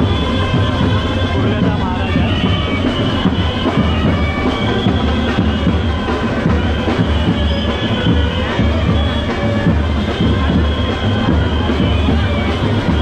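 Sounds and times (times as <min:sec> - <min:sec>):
dhol drums beating fast: 0:00.0 - 0:13.0.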